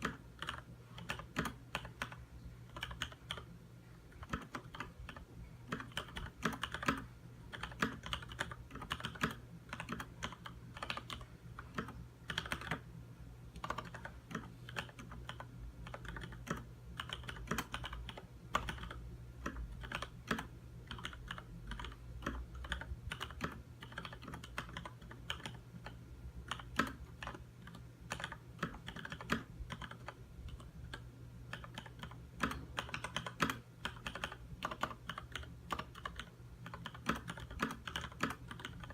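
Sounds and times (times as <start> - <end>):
mechanical keyboard typing: 0.0 - 3.5, 4.1 - 12.9, 13.5 - 38.9.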